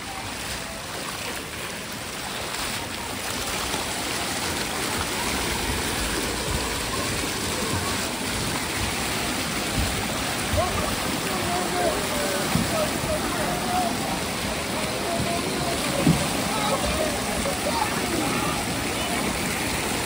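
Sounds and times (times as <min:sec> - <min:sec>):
water pouring into shallow water: 0:00.0 - 0:20.0.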